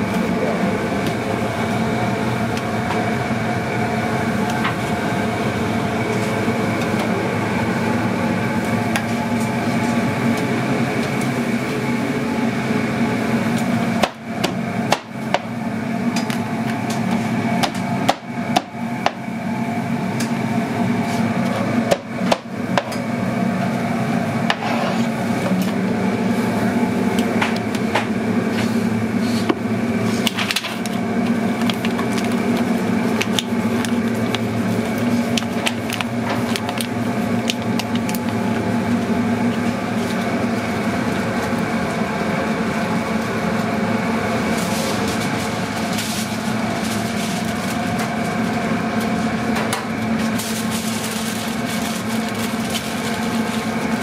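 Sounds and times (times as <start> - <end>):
loud kitchen hum: 0.0 - 54.0.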